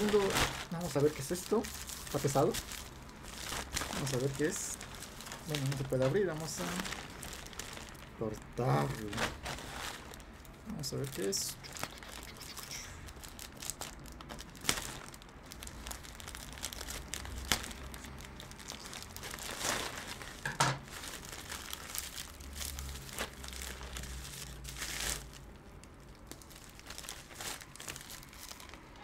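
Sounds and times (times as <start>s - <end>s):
plastic bag crinkling: 0.0s - 29.0s.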